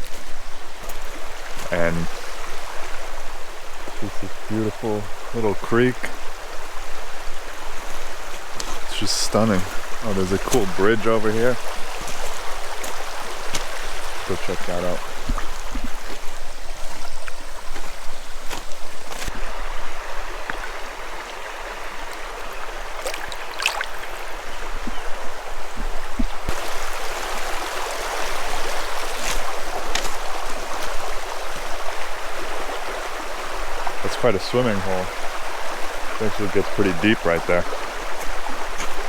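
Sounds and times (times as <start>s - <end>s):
water rushing over rocks: 0.0s - 17.5s, 19.2s - 39.0s.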